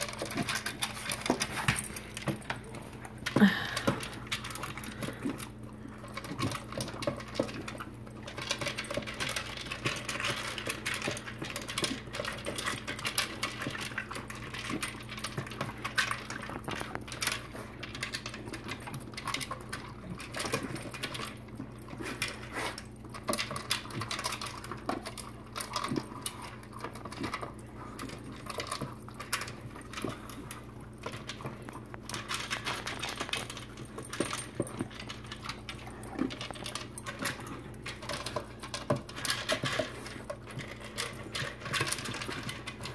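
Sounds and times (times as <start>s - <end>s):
food rattling in plastic bowls: 0.0s - 42.9s.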